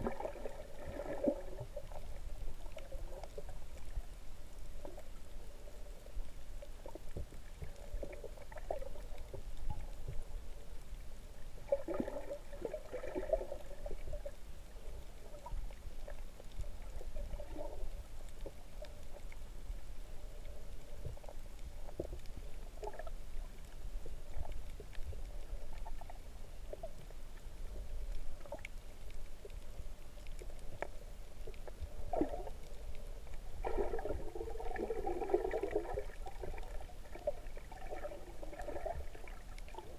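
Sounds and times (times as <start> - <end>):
underwater rumble: 0.0 - 39.9
faint clicks: 1.0 - 11.8, 12.7 - 34.1.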